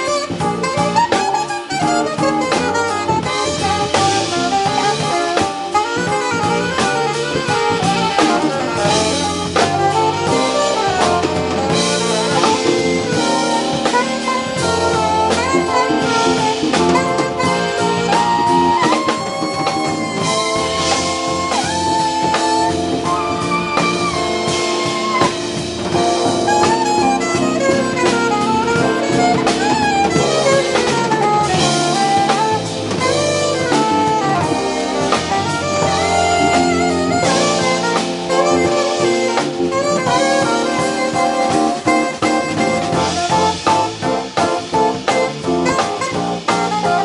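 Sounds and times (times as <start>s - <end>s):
drum kit: 0.0s - 47.0s
electric bass: 0.0s - 47.0s
keyboards: 0.0s - 47.0s
saxophone lead line: 0.0s - 47.0s.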